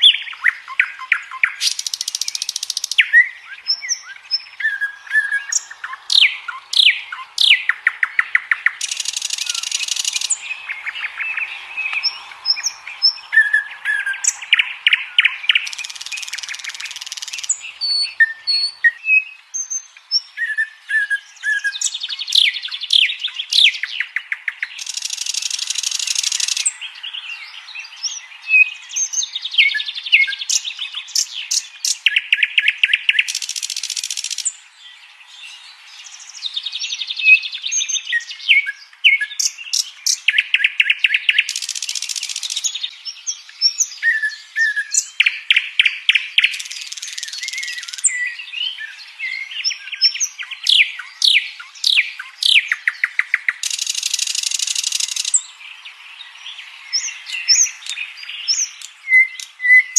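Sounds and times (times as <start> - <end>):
nightingale singing: 0.0 - 59.9.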